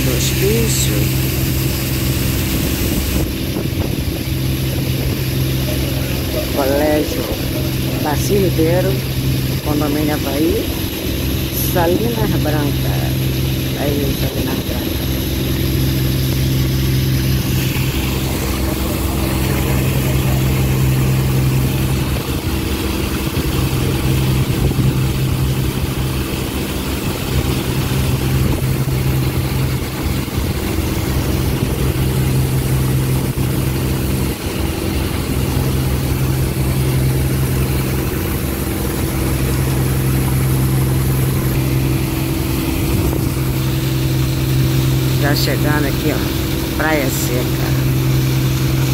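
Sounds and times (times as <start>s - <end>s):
ferry engine droning: 0.0s - 48.9s.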